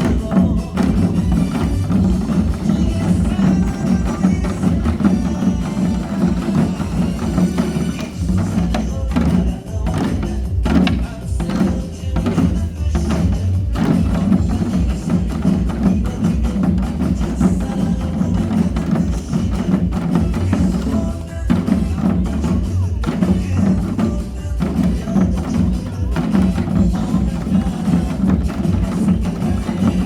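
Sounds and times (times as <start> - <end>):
drum ensemble playing: 0.0 - 30.0
recorded backing music: 0.0 - 30.0.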